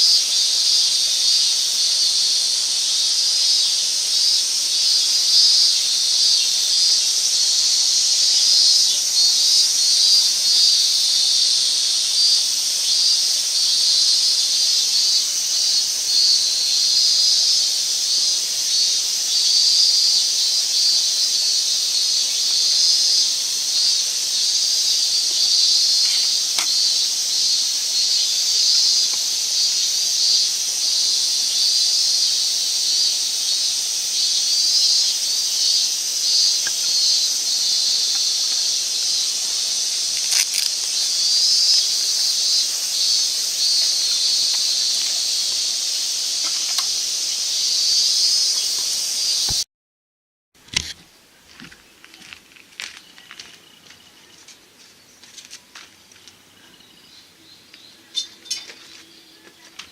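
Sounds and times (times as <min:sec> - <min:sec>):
high-pitched fluttering hiss: 0:00.0 - 0:49.6.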